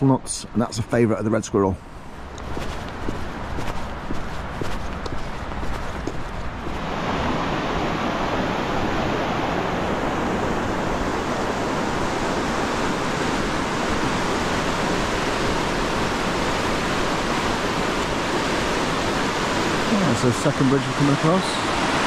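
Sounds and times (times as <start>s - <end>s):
river rushing over rapids: 2.2s - 22.0s.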